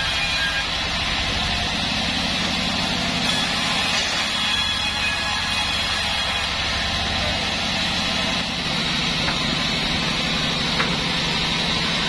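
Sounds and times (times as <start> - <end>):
band sawmill blade humming: 0.0 - 12.0.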